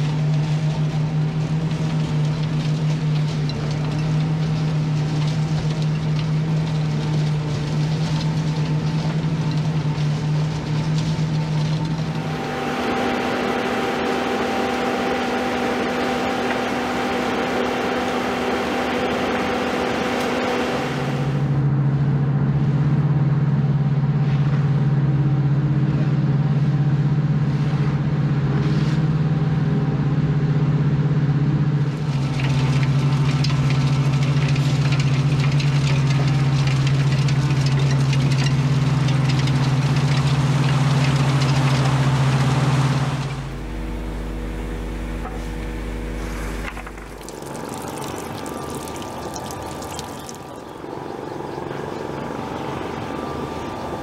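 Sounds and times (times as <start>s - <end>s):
diesel engine running: 0.0s - 54.0s
low machine hum: 0.0s - 54.0s.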